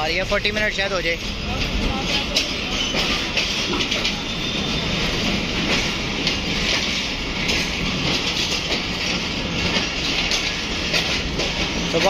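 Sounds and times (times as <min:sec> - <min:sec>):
train coaches rumbling past: 0:00.0 - 0:12.0
wheels clattering over rail joints: 0:00.0 - 0:12.0.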